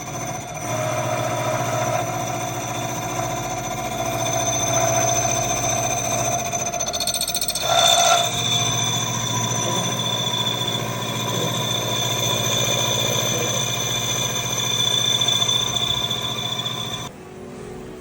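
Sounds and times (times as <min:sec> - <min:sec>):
power tool pulsing whine: 0:00.0 - 0:17.1.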